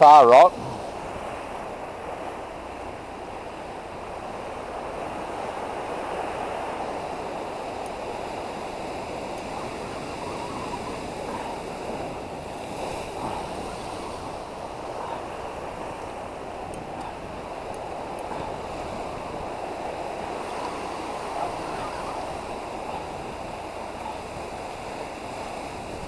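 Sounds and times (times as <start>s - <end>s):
ocean surf washing: 0.0s - 26.0s.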